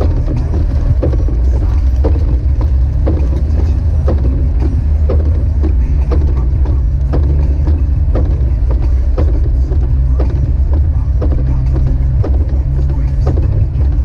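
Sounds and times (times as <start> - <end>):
engine and road drone: 0.0 - 14.0
regular knocking: 0.0 - 14.0.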